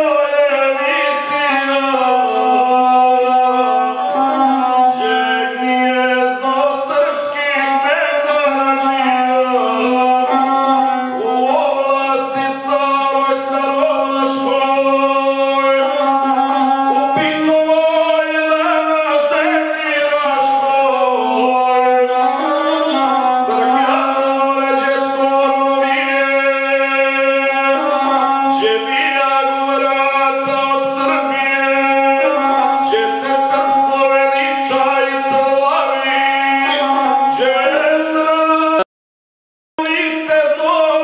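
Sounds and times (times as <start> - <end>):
bowed string instrument: 0.0 - 38.8
man singing: 0.0 - 38.9, 39.8 - 41.0.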